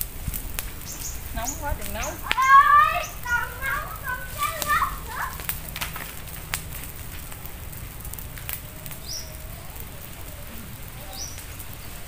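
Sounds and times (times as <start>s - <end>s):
twigs and straw crackling in fire: 0.0s - 12.0s.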